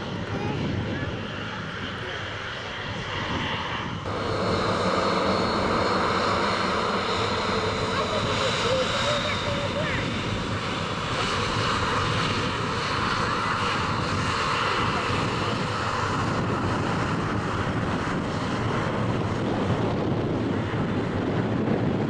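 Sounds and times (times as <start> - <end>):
jet engines roaring at take-off: 0.0 - 22.0.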